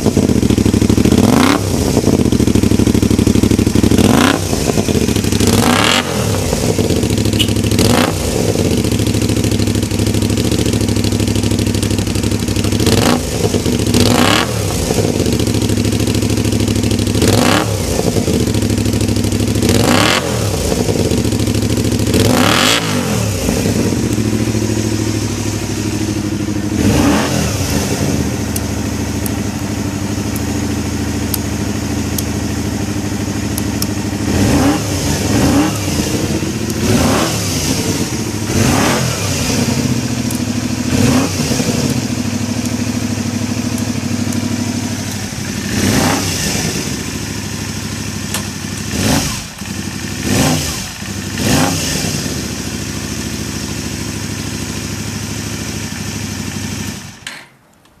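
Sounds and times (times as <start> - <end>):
motorcycle engine idling: 0.0 - 57.4
motorcycle throttle blips: 0.0 - 58.0.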